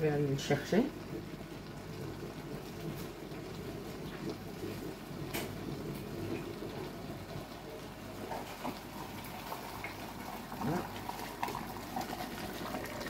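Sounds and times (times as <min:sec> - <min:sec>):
water boiling: 0:00.0 - 0:13.0.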